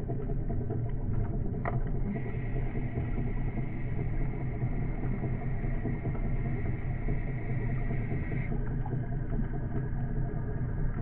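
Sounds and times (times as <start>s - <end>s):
faint steady whine: 0.0s - 11.0s
low underwater rumble: 0.0s - 11.0s.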